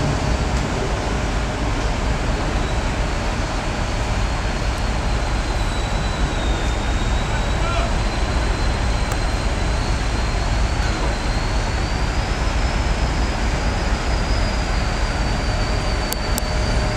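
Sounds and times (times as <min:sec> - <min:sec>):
heavy diesel machinery running: 0:00.0 - 0:16.9.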